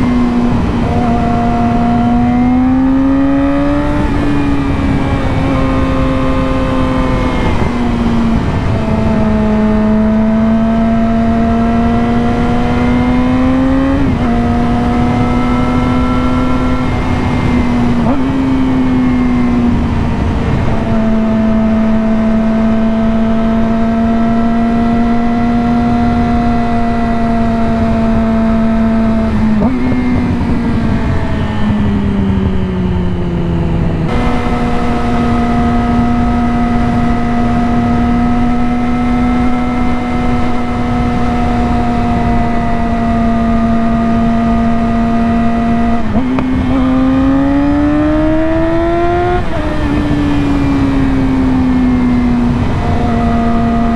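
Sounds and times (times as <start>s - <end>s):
motorcycle engine revving: 0.0s - 53.9s
wind noise: 0.0s - 53.9s.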